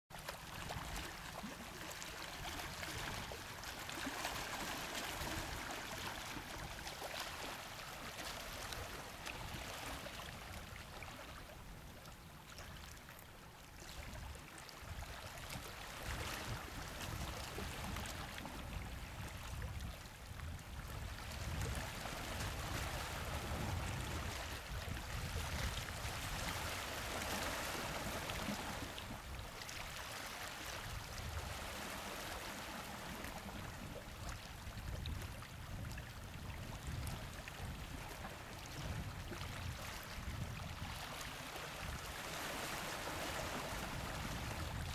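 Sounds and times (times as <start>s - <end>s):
sea waves lapping against rocks: 0.1s - 44.9s.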